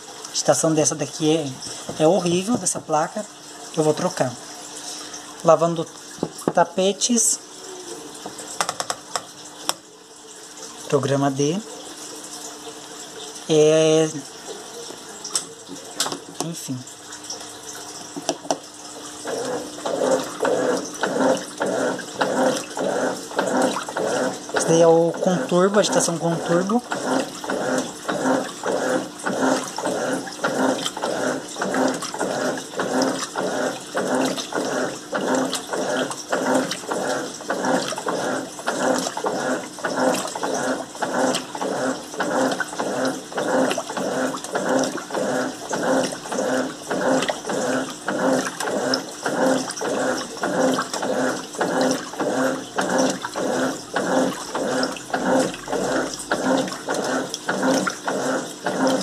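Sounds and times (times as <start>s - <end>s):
washing machine agitating water: 0.0s - 59.0s.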